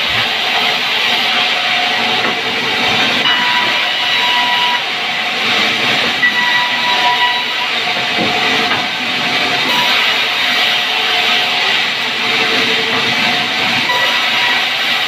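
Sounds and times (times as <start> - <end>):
band saw cutting log: 0.0 - 15.0.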